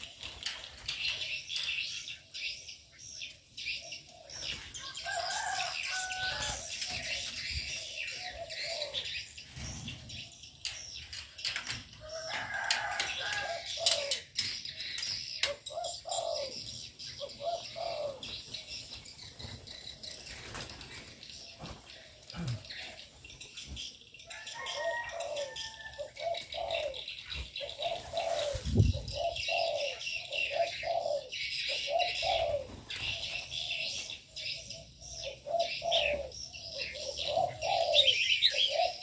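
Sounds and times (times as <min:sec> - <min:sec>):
small birds chirping: 0:00.0 - 0:39.0
doves cooing: 0:03.7 - 0:39.0.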